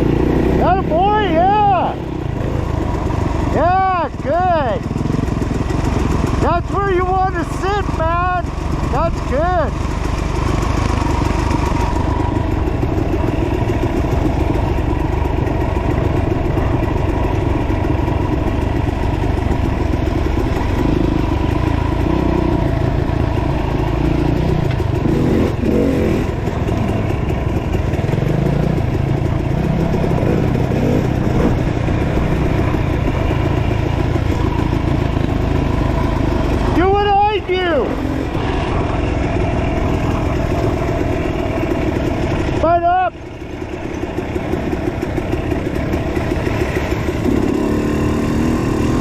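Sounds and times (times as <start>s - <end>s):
dirt bike engine running: 0.0s - 49.0s.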